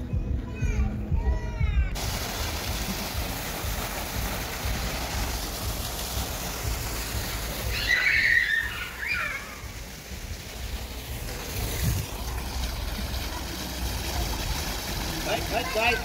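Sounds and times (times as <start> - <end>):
fountain water jet splashing: 2.0 - 16.0.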